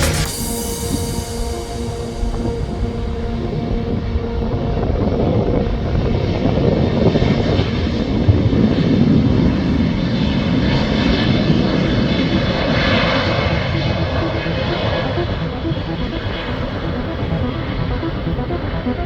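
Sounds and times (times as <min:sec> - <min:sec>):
high jet engine whine: 0:00.0 - 0:19.0.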